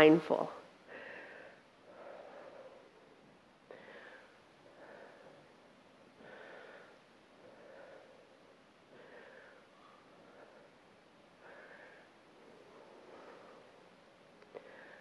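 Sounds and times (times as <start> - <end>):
woman breathing: 0.6 - 15.0.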